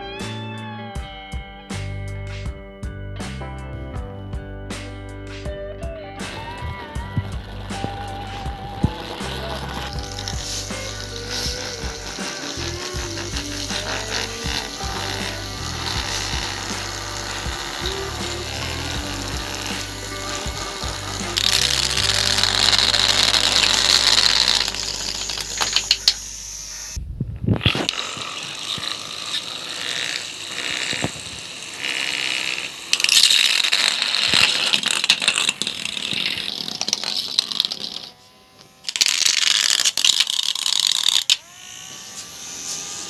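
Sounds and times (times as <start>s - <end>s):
motor whine: 6.2s - 43.0s
toy car motors whirring: 6.3s - 27.0s, 27.6s - 43.0s.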